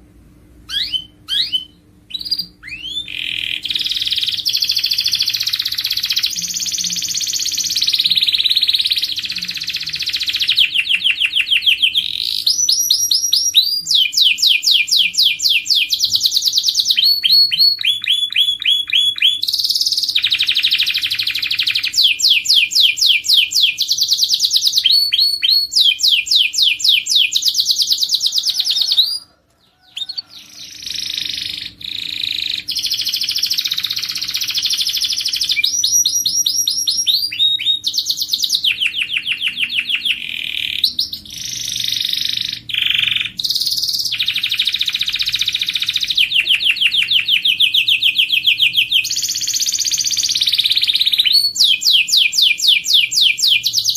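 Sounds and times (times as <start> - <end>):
canary singing trills: 0.7 - 53.9.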